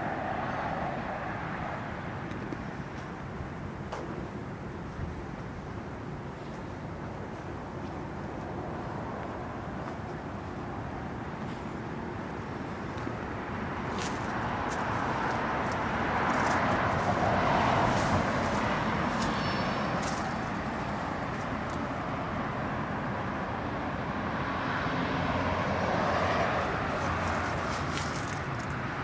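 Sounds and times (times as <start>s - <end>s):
cars passing with hiss: 0.0s - 29.0s.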